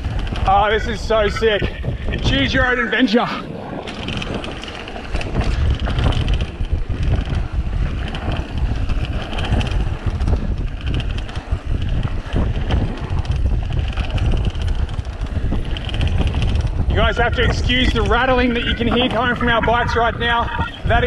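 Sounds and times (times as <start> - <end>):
tripod rattling on handlebars: 0.0 - 3.1, 3.7 - 21.0
wind buffeting on microphone: 0.0 - 21.0.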